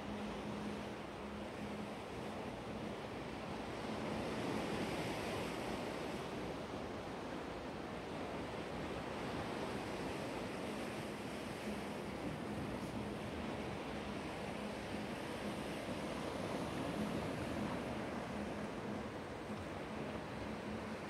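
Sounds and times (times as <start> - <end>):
waves washing on shore: 0.0 - 21.0.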